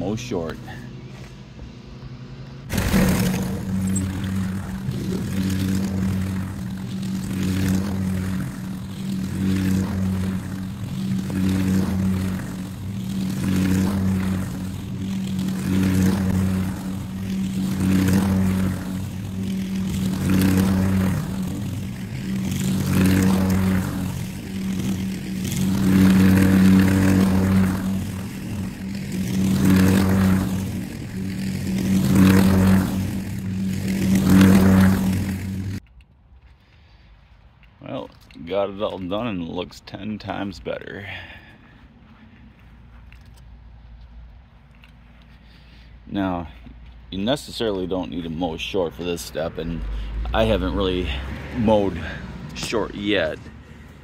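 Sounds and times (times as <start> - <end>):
push lawn mower cutting grass: 0.0 - 36.0, 44.3 - 54.0.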